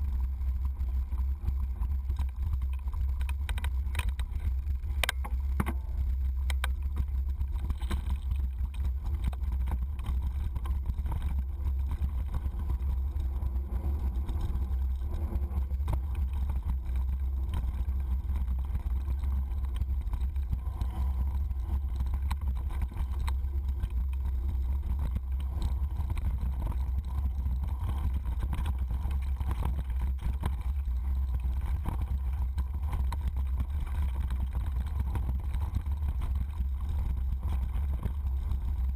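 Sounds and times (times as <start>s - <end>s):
bike clicks and rattles: 0.0s - 38.9s
deep rumble of wind and vibration: 0.0s - 38.9s.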